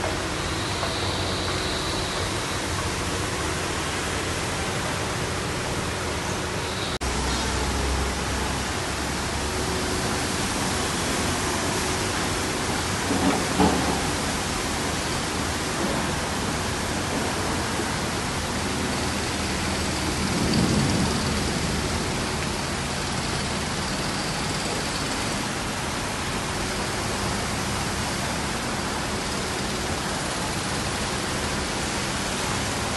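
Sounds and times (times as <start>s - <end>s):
heavy rain downpour: 0.0s - 32.9s.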